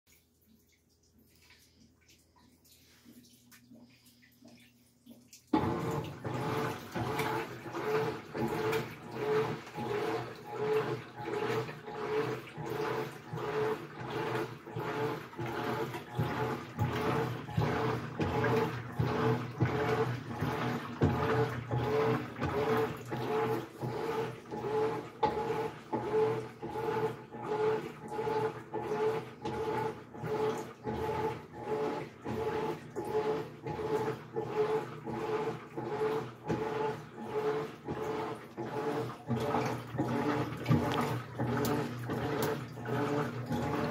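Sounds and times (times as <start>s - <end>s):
water sloshing: 0.1s - 43.9s
washing machine motor humming: 1.0s - 43.9s.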